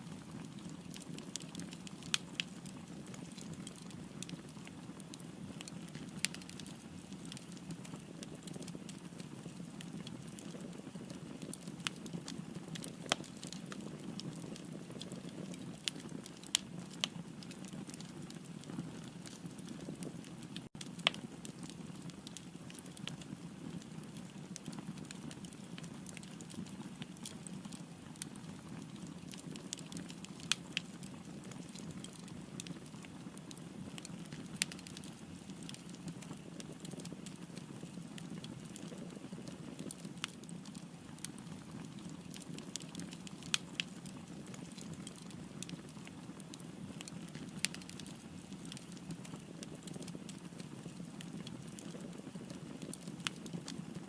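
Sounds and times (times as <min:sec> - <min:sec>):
burning wood crackling: 0:00.0 - 0:54.0.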